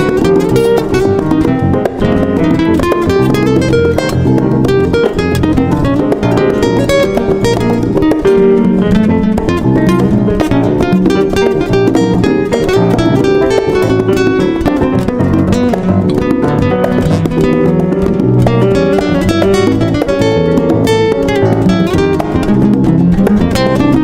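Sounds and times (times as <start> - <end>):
flamenco-style acoustic guitar: 0.0 - 24.0.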